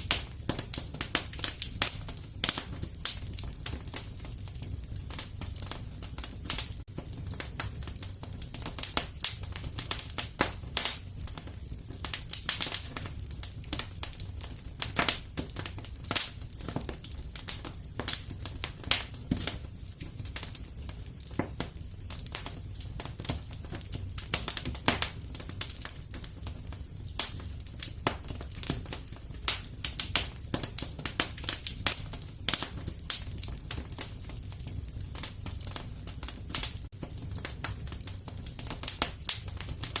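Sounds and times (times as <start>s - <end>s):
fire crackles and pops: 0.0s - 40.0s
wood fire crackling: 0.0s - 40.0s.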